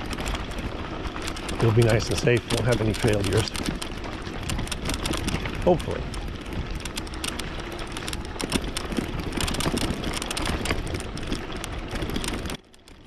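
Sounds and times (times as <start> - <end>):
bike knocking and rattling: 0.0 - 13.0
bike tyres rushing on dirt: 0.0 - 13.0.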